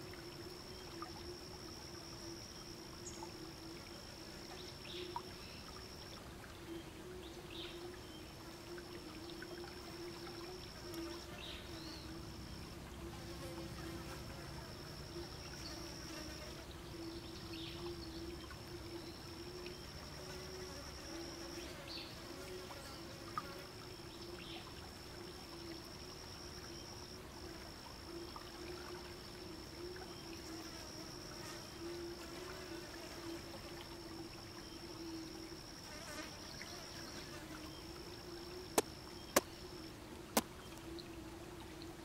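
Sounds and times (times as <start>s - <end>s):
insects whining high-pitched: 0.0s - 40.0s
low wavering insect buzz: 0.0s - 40.0s.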